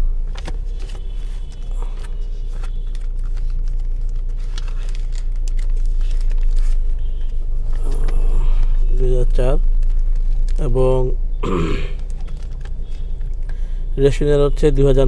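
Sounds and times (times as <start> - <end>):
low hum in car cabin: 0.0 - 15.0
paper rustling and crinkling: 0.2 - 10.8, 12.0 - 13.6.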